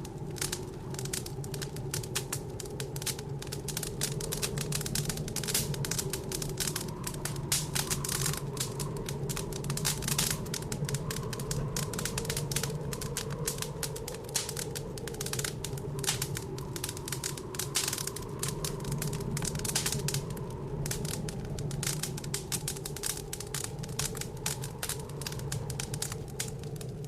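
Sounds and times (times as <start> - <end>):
blizzard wind rumbling: 0.0 - 27.0
wood fire crackling: 0.0 - 27.0.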